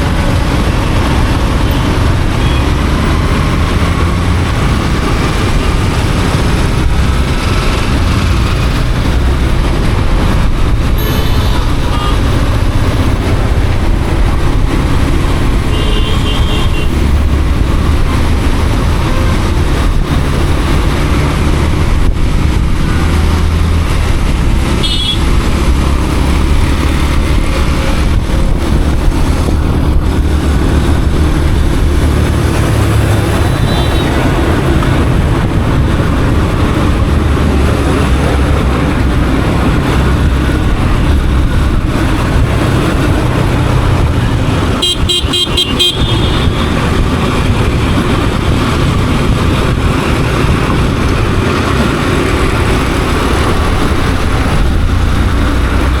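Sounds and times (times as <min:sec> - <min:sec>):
motorcycle engine and wind rumble: 0:00.0 - 0:56.0.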